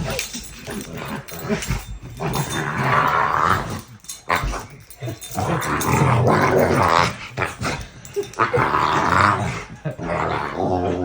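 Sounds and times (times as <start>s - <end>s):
dog growling: 0.0s - 11.0s.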